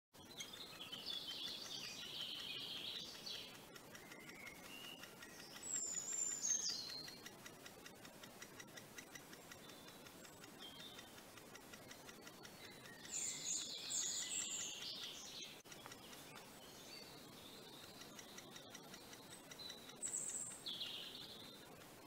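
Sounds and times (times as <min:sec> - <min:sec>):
high chattering bird calls: 0:00.2 - 0:22.0.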